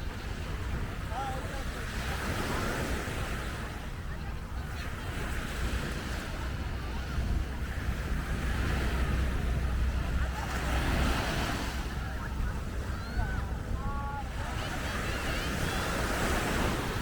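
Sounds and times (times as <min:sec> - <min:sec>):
surf washing onto sandy beach: 0:00.0 - 0:17.0
wind rumbling on microphone: 0:00.0 - 0:17.0.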